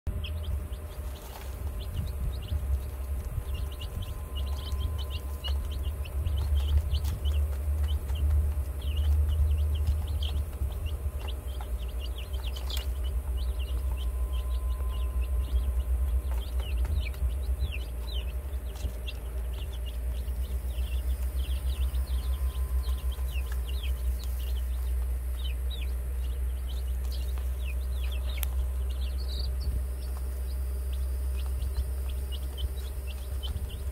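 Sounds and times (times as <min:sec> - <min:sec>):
chicks peeping: 0:00.1 - 0:33.9
steady low rumble: 0:00.1 - 0:33.9.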